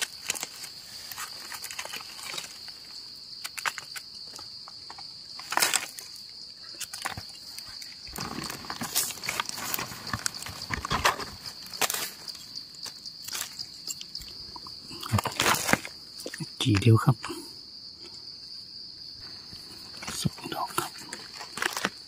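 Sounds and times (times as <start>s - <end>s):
rustling of dry leaf litter: 0.0s - 16.4s, 19.2s - 22.0s.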